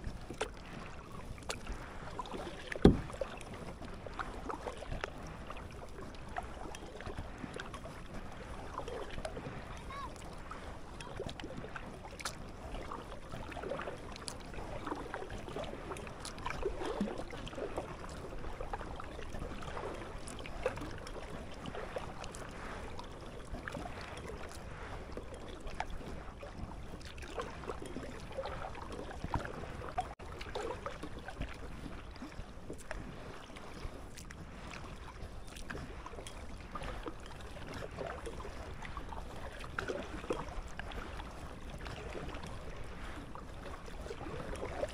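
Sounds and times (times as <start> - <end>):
paddle splashing: 0.0 - 44.9
water lapping at hull: 0.0 - 44.9.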